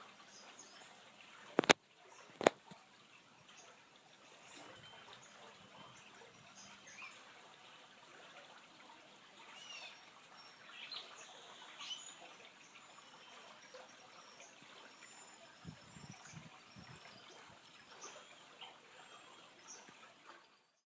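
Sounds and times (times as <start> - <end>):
water trickling over rocks: 0.0 - 20.8.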